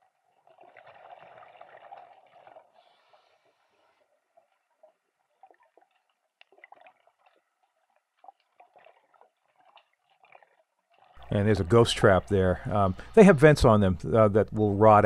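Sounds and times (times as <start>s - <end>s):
faint underwater clicks: 0.0s - 13.2s
water gurgling: 0.0s - 15.0s.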